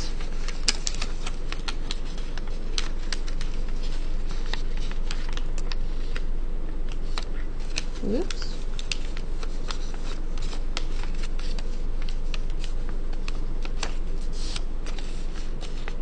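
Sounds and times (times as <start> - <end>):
paper crinkling with sharp clicks: 0.0 - 16.0.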